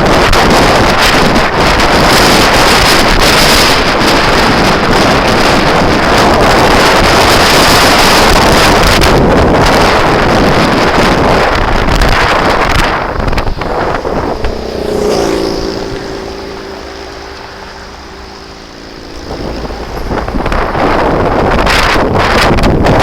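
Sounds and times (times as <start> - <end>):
scooter engine running: 0.0 - 23.0
wind buffeting microphone: 0.0 - 23.0.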